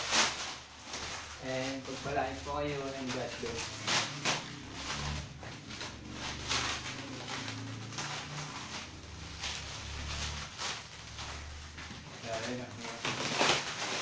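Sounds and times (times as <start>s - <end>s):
plastic wrapping crinkling: 0.0s - 14.0s.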